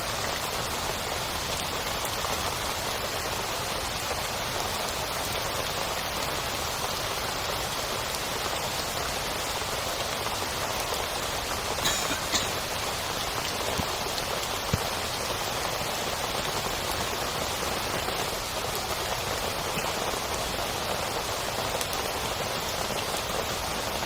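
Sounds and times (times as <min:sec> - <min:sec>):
heavy rain on a tent: 0:00.0 - 0:24.0.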